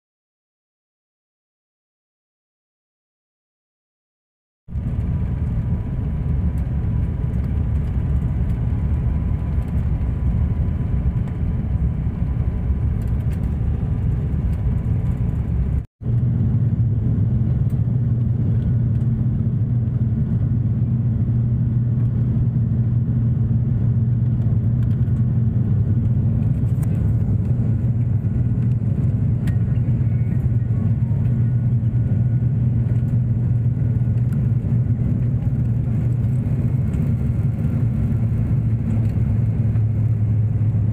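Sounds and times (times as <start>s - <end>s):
airliner engines and propellers droning: 4.7s - 40.9s.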